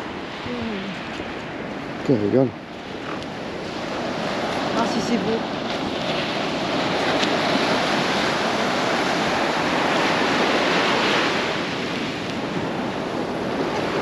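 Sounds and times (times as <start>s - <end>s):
sea waves breaking on beach: 0.0s - 14.0s.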